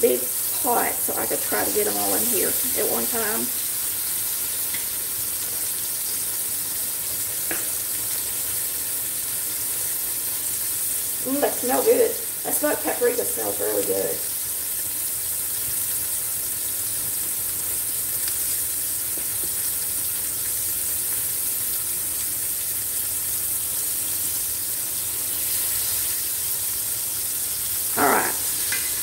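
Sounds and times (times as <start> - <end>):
pork chops sizzling in oil: 0.0 - 29.0.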